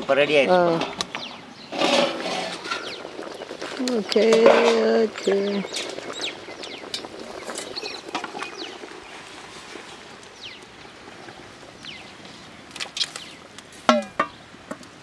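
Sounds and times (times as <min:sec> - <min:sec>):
small birds chirping: 0:00.2 - 0:14.5.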